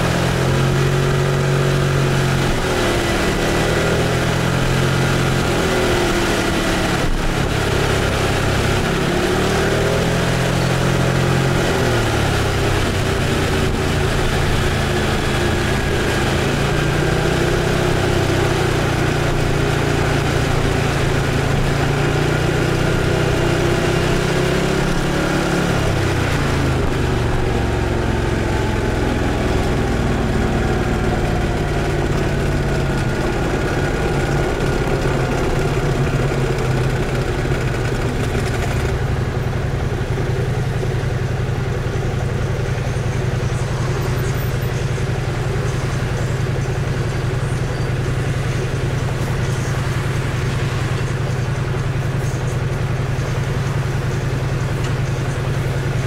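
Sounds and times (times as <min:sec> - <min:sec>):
scooter engine running: 0:00.0 - 0:56.0
wind and road noise: 0:00.0 - 0:56.0.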